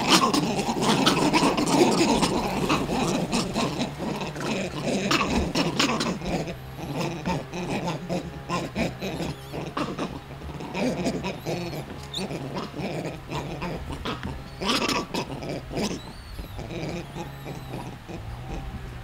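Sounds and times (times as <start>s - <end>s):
monkeys calling: 0.0s - 19.0s.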